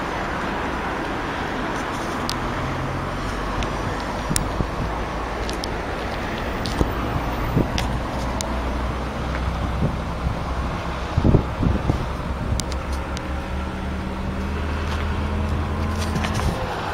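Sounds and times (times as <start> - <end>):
diesel engine idling: 0.0 - 16.9.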